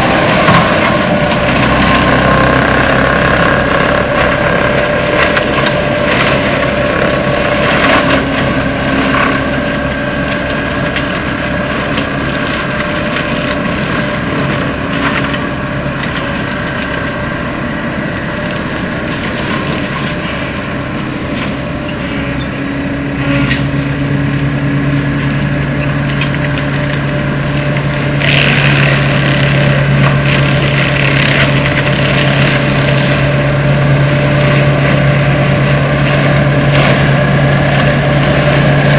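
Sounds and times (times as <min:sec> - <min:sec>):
diesel engine under load: 0:00.0 - 0:38.9
mulcher rotor shredding wood: 0:00.0 - 0:38.9.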